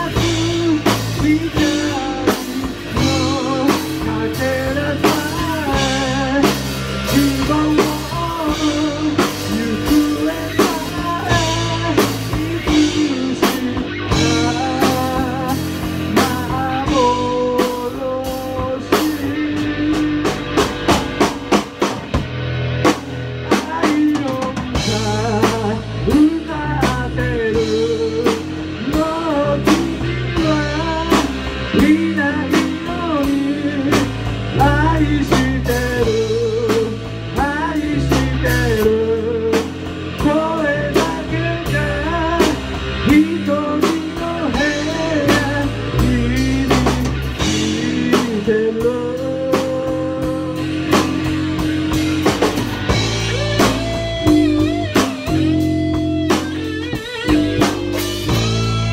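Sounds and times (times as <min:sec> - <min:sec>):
bass guitar: 0:00.0 - 0:58.9
drum kit: 0:00.0 - 0:58.9
electric guitar: 0:00.0 - 0:58.9.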